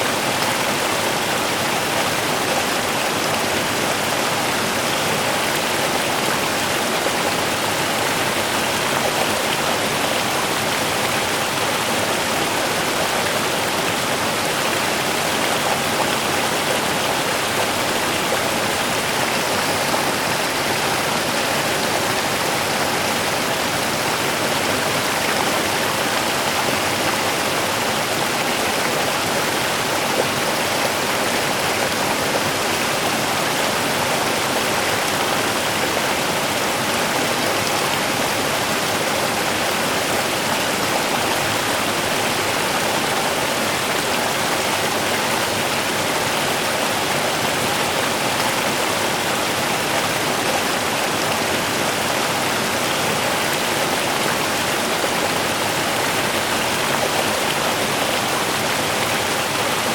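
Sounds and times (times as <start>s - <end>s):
river running over stones: 0.2s - 59.9s.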